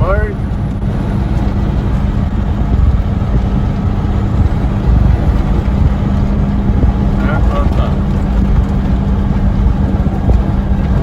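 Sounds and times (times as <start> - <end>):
road noise: 0.0 - 11.0
truck diesel engine rumble: 0.0 - 11.0.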